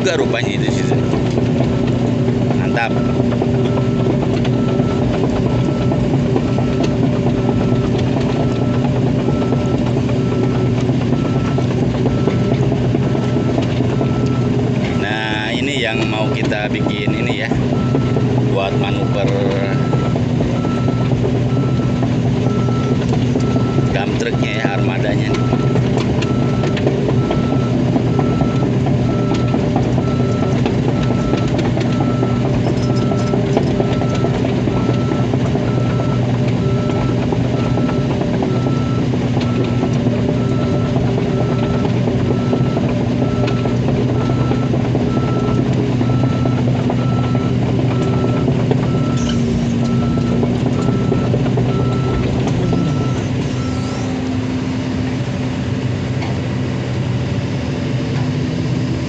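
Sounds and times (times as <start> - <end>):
excavator travel alarm beeping: 0.0 - 58.0
diesel engine running: 0.0 - 59.0.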